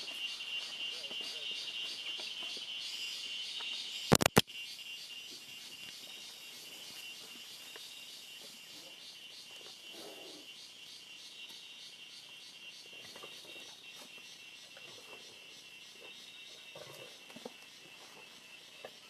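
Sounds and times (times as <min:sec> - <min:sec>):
forest insects trilling: 0:00.0 - 0:19.0.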